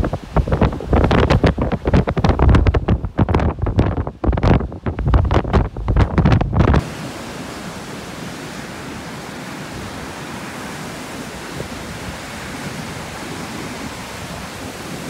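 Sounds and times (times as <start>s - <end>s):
storm waves breaking on shore: 0.0s - 15.0s
wind buffeting microphone: 0.0s - 15.0s.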